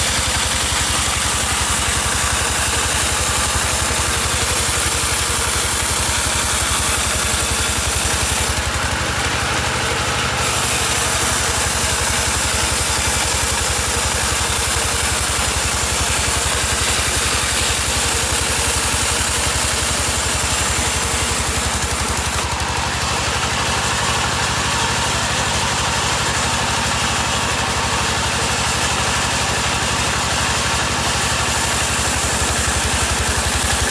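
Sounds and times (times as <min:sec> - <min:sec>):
engine running with low pulse: 0:00.0 - 0:33.9.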